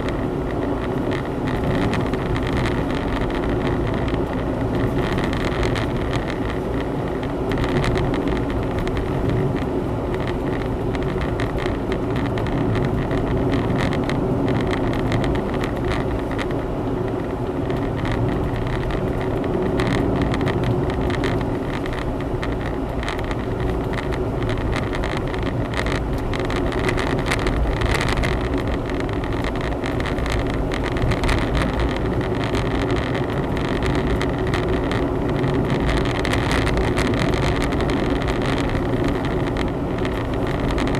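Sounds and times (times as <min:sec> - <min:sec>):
car engine hum: 0:00.0 - 0:40.9
tyre road noise: 0:00.0 - 0:40.9.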